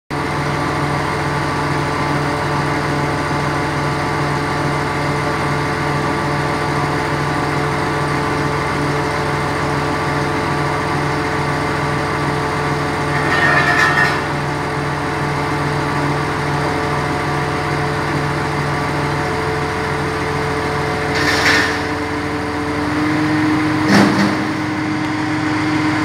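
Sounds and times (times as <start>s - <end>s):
truck engine droning: 0.1s - 26.0s.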